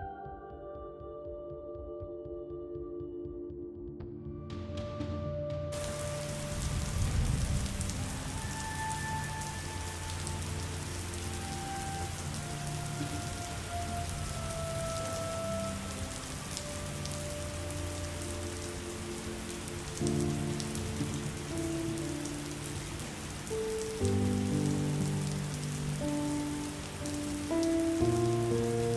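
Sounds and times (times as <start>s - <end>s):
rain falling: 5.7s - 28.9s.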